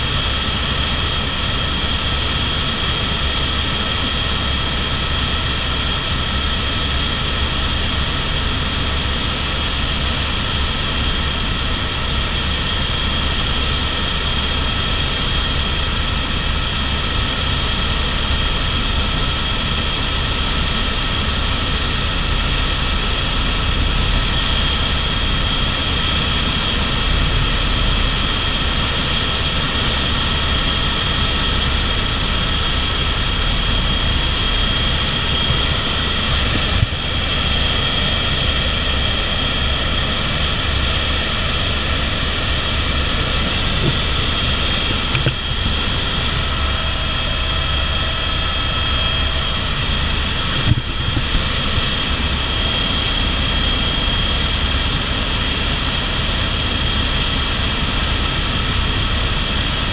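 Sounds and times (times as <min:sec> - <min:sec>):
high turbine whine: 0:00.0 - 0:59.9
low drone of rotor and engine: 0:00.0 - 0:59.9.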